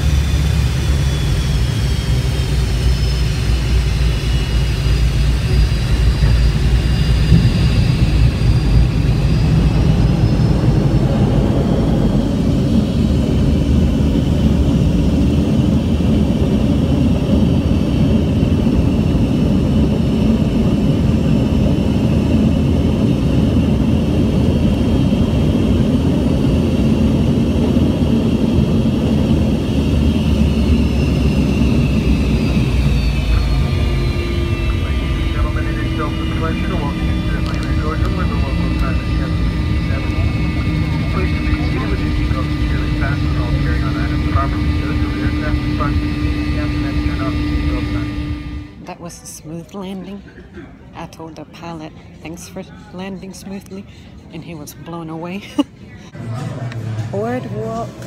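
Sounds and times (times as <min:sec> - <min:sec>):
high engine whine: 0:00.0 - 0:58.0
jet engine rumble in cabin: 0:00.0 - 0:58.0.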